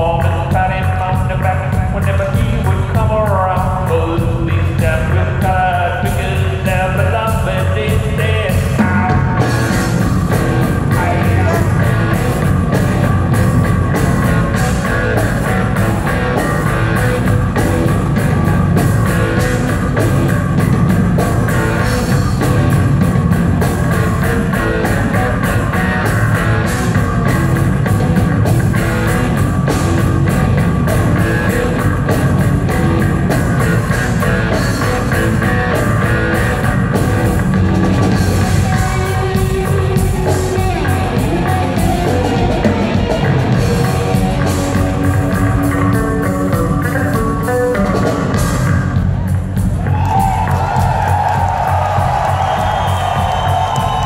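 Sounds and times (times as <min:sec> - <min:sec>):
drums: 0:00.0 - 0:54.0
live rock band playing: 0:00.0 - 0:54.0
low bass: 0:00.0 - 0:54.0.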